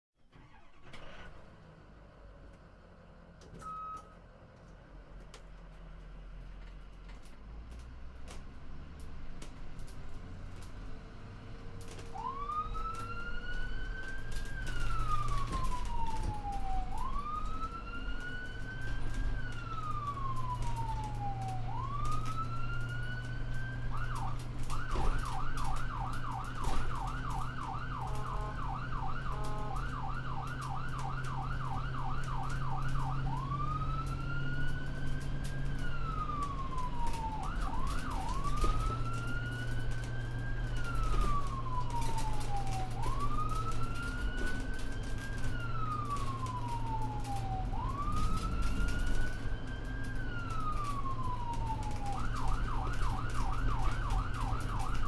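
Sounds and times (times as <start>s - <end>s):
ambulance siren wailing and yelping: 0.4s - 1.3s, 11.9s - 55.0s.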